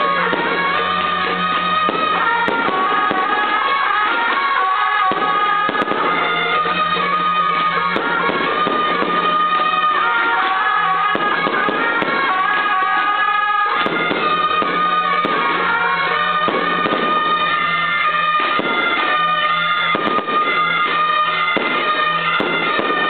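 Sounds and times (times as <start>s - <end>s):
firecrackers crackling: 0.0s - 23.0s
shrill suona procession music: 0.0s - 23.0s.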